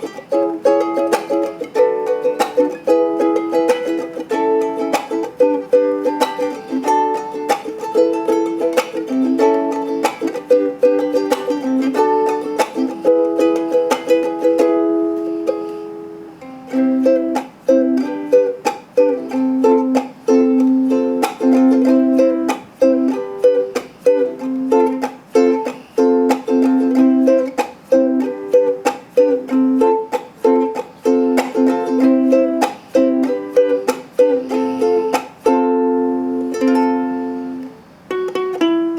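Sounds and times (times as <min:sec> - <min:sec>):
ukulele chords strummed: 0:00.0 - 0:38.9.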